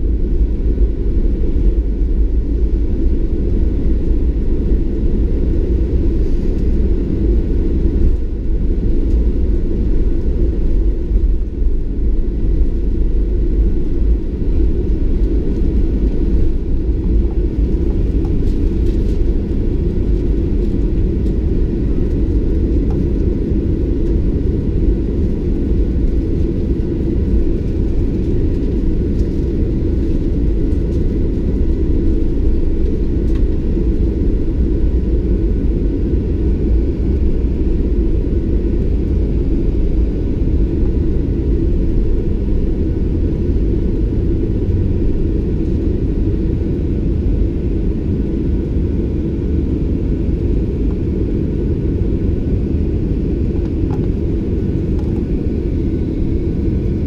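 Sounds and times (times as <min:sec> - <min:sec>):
faint steady whine: 0:00.0 - 0:57.0
jet engines low rumble: 0:00.0 - 0:57.0.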